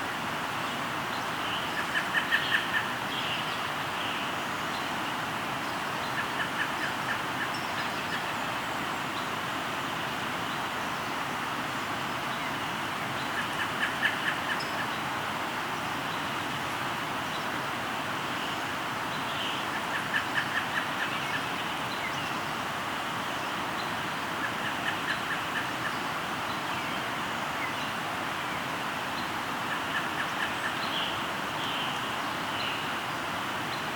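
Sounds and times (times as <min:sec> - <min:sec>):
river flowing: 0:00.0 - 0:33.9.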